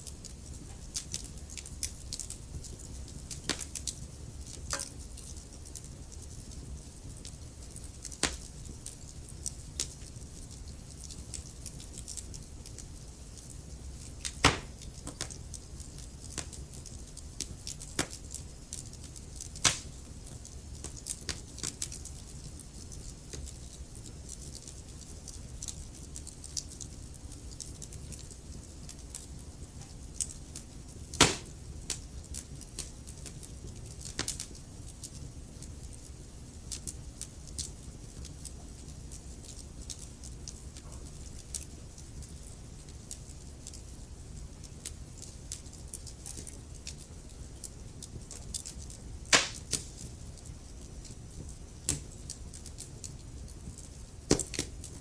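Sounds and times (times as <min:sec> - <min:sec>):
fire rumbling: 0:00.0 - 0:55.0
logs crackling and popping: 0:00.0 - 0:55.0.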